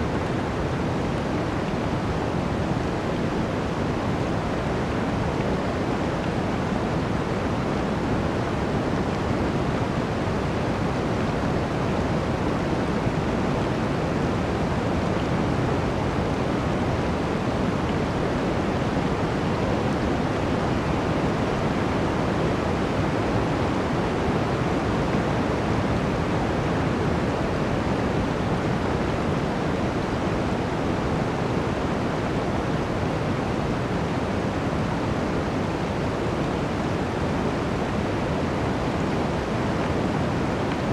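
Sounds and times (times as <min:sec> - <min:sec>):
strong wind through forest: 0:00.0 - 0:40.9.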